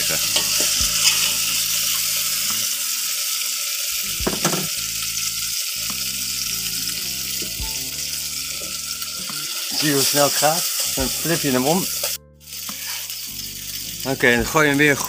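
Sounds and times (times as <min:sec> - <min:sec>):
flatbread sizzling in hot oil: 0:00.0 - 0:15.0.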